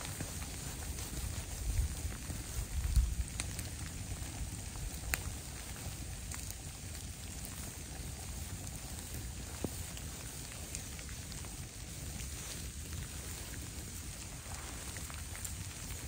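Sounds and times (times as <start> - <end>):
sharp ticks of raindrops: 0.0 - 16.0
steady rain hiss: 0.0 - 16.0.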